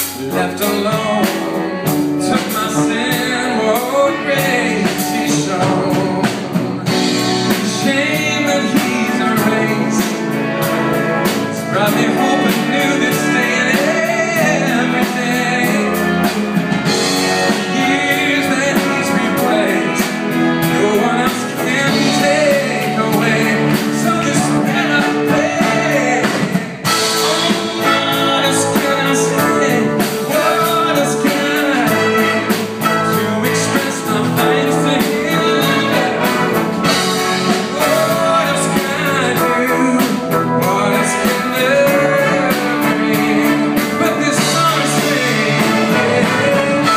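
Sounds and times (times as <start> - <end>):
drum kit: 0.0 - 46.9
electric guitar: 0.0 - 46.9
person singing: 0.0 - 46.9
rock band playing: 0.0 - 46.9.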